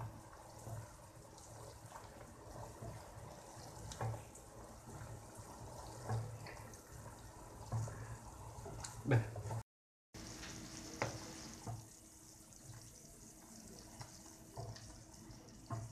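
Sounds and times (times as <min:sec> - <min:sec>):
syrup bubbling at the boil: 0:00.0 - 0:09.6, 0:10.2 - 0:15.9.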